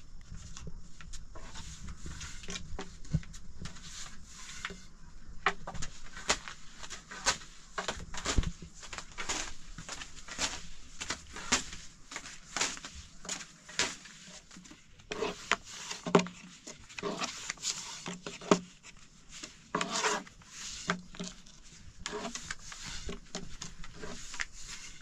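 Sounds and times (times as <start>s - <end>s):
rubbing and scraping strokes: 0.3s - 25.0s.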